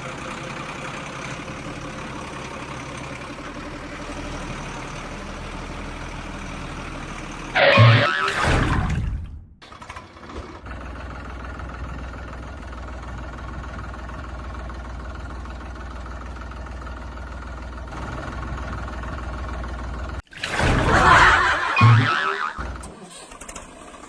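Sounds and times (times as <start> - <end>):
engine idling: 0.0 - 8.3, 9.5 - 20.3, 21.2 - 24.0.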